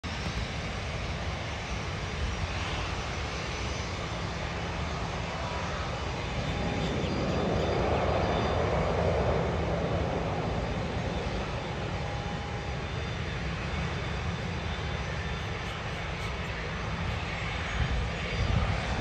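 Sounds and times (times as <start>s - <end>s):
jet engines rumbling and hissing: 0.0s - 19.0s.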